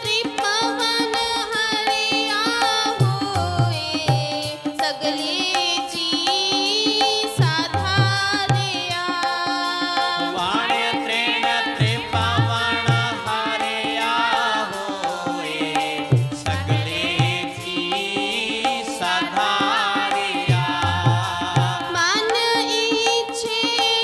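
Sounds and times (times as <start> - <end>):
tabla playing: 0.0 - 24.0.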